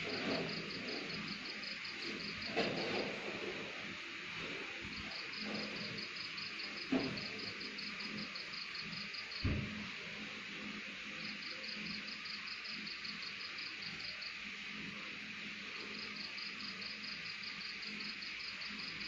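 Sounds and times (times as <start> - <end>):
insects chirping rapidly: 0.0 - 3.8, 4.9 - 9.6, 11.0 - 19.0
steady high insect hiss: 0.0 - 19.0.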